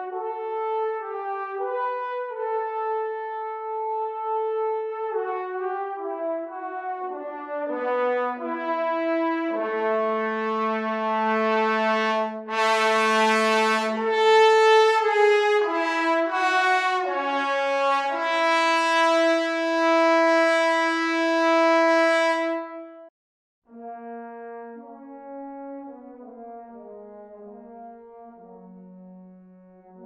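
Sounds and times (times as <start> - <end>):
trombone section sustained chords: 0.0 - 23.1, 23.7 - 30.0.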